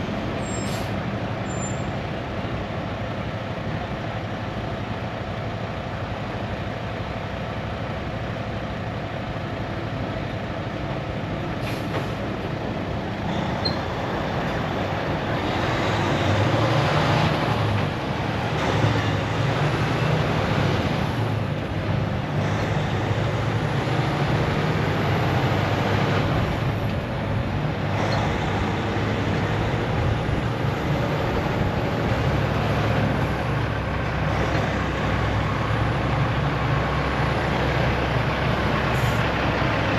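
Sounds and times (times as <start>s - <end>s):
road and wind noise: 0.0s - 39.9s
truck diesel engine: 0.0s - 39.9s.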